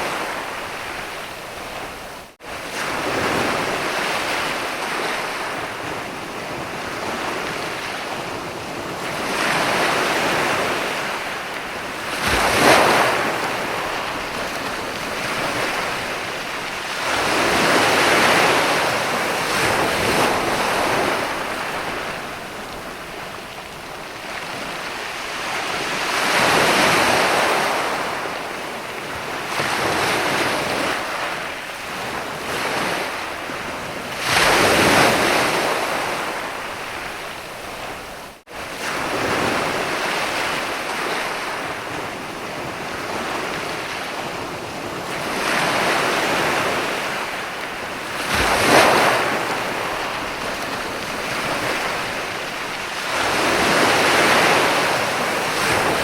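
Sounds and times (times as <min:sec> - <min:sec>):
waves breaking on a sandy beach: 0:00.0 - 0:56.0.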